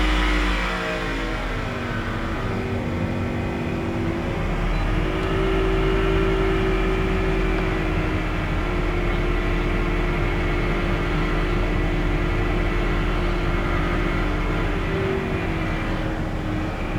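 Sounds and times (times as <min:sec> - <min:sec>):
car engine growling whine: 0:00.0 - 0:16.9.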